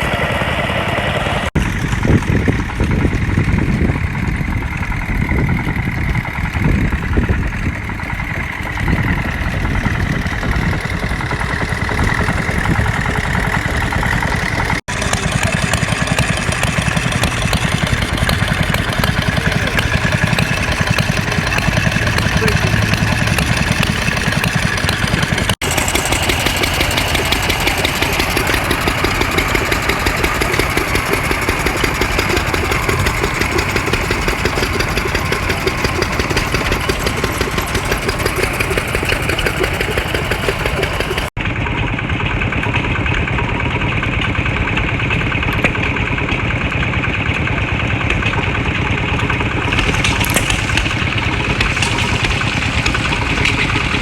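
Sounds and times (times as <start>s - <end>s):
engines running: 0.0s - 54.0s.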